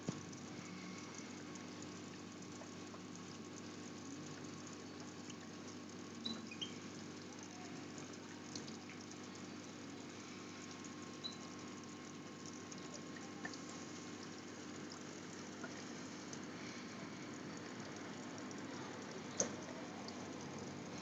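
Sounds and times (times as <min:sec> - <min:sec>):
aquarium pump humming: 0:00.0 - 0:21.0
faint ticks: 0:00.0 - 0:21.0
faint water bubbling: 0:00.0 - 0:21.0.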